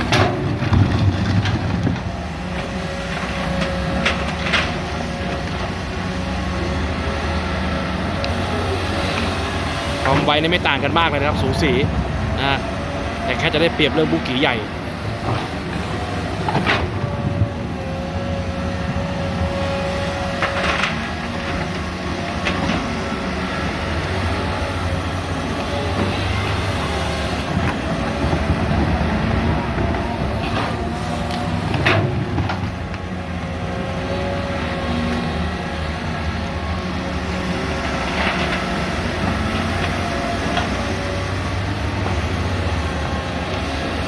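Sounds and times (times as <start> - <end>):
excavator diesel engines working: 0.0 - 44.0.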